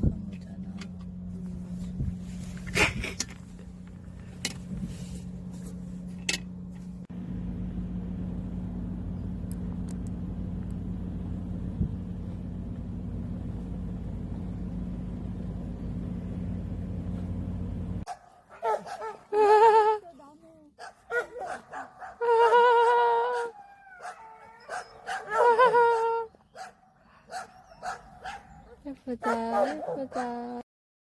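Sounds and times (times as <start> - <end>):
car engine and cabin rumble: 0.0 - 26.7.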